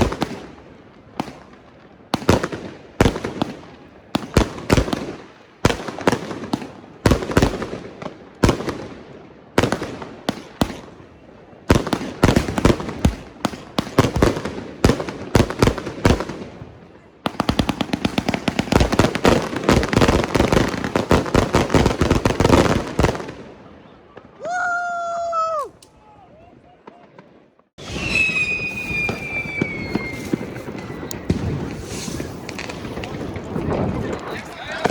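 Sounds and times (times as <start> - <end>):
fireworks and firecrackers banging: 0.0 - 34.9.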